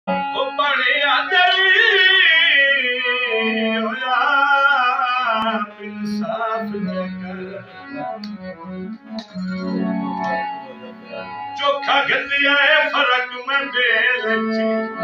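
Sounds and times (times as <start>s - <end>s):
harmonium playing low notes: 0.1s - 15.0s.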